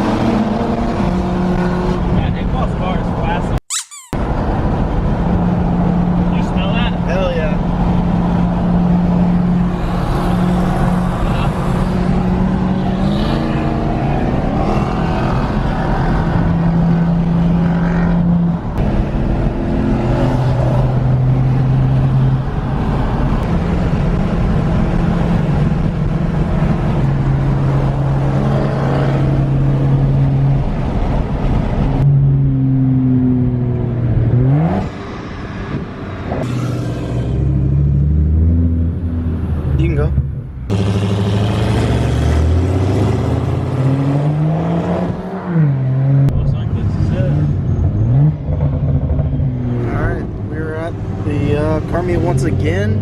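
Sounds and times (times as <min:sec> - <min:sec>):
car engine: 0:00.0 - 0:53.0
road noise: 0:00.0 - 0:53.0.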